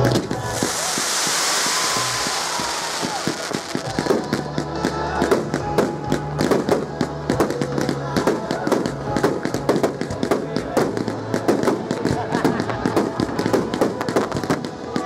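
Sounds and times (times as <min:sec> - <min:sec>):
fireworks bangs and crackles: 0:00.0 - 0:15.0
fireworks hissing: 0:00.0 - 0:15.0
music: 0:00.0 - 0:15.0.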